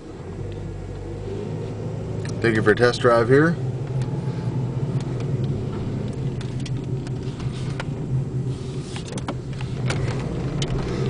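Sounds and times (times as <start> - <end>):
car engine humming: 0.0 - 11.0
road noise: 0.0 - 11.0.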